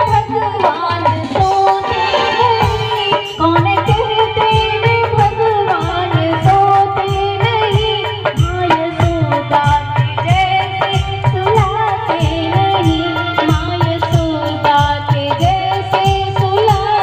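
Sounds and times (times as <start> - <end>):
drums beating: 0.0 - 17.0
woman singing devotional song: 0.0 - 17.0.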